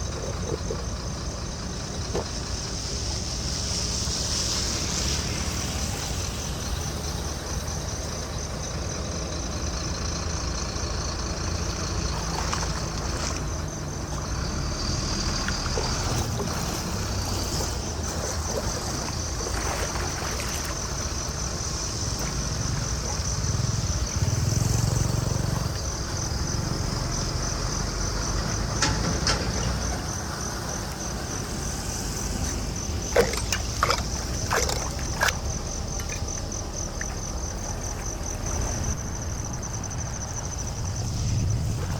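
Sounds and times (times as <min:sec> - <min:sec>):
high insect trill: 0:00.0 - 0:41.9
floodwater rushing into drain: 0:01.6 - 0:08.6, 0:11.4 - 0:26.7, 0:27.4 - 0:41.9.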